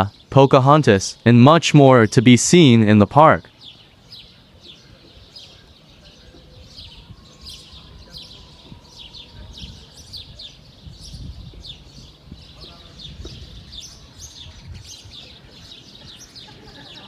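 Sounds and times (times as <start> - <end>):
outdoor background murmur: 0.0 - 17.0
small birds chirping: 0.0 - 17.0.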